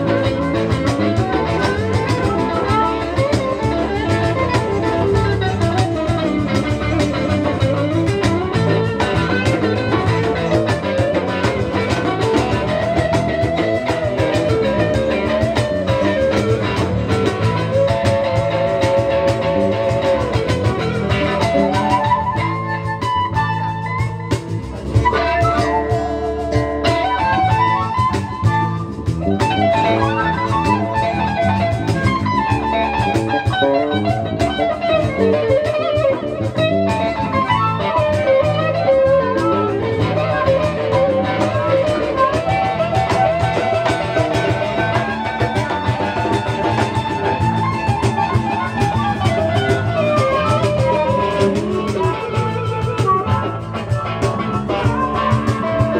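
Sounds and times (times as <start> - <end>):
blues-rock band playing: 0.0 - 55.9
electric guitar lead melody: 0.0 - 55.9.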